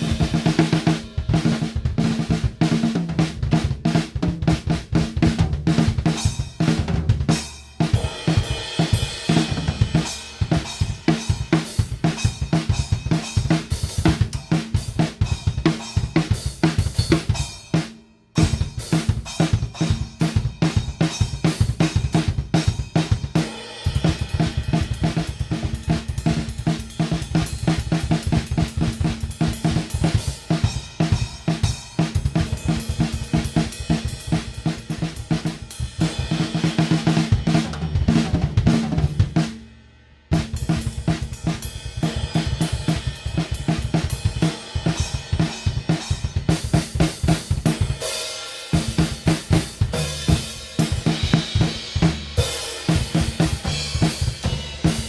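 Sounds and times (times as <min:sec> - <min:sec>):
drum kit played fast: 0:00.0 - 0:55.0.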